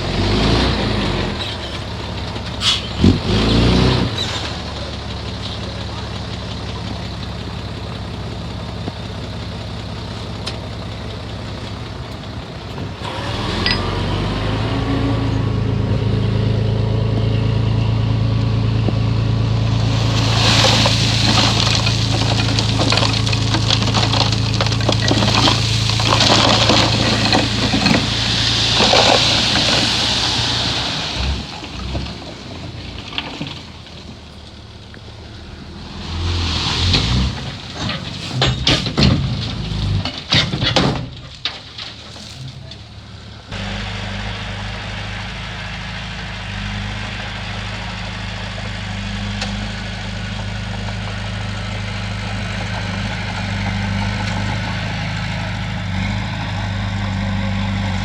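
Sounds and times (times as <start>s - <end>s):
heavy diesel engine revving: 0.0s - 7.4s, 11.7s - 32.5s, 35.3s - 40.2s, 43.4s - 58.0s.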